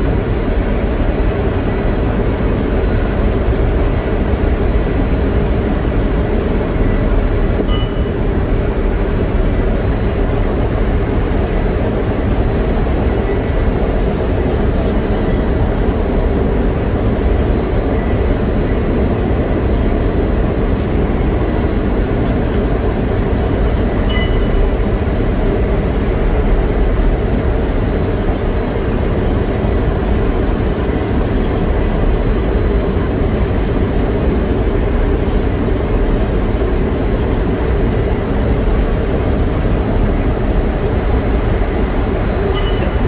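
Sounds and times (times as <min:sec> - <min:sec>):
generator engines rumbling: 0:00.0 - 0:43.0.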